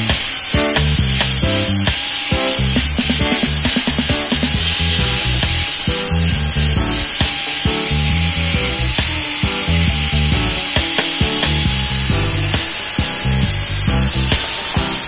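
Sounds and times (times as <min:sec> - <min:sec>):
angle grinder sanding metal: 0:00.0 - 0:15.0
background music: 0:00.0 - 0:15.0.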